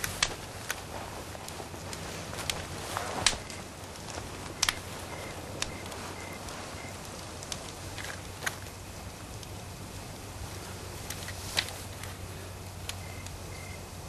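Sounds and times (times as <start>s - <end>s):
campfire crackling: 0.0s - 14.0s
low steady hiss: 0.0s - 14.0s.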